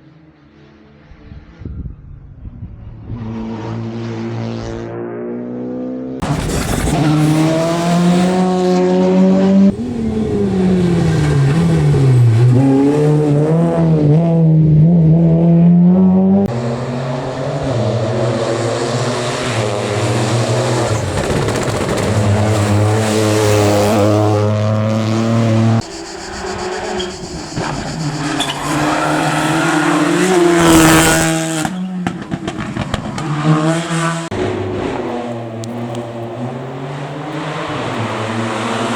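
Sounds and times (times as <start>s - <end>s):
rally car engines revving: 2.9s - 38.9s.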